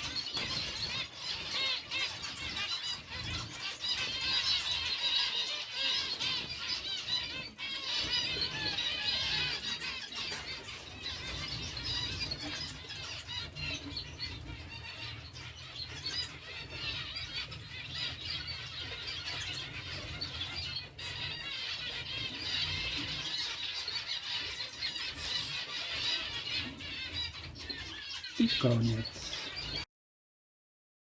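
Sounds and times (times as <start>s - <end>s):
many small birds chirping: 0.0s - 29.9s.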